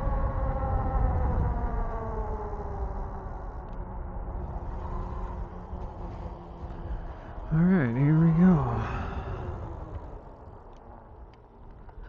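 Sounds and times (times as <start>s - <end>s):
wind and tyre rumble: 0.0s - 12.0s.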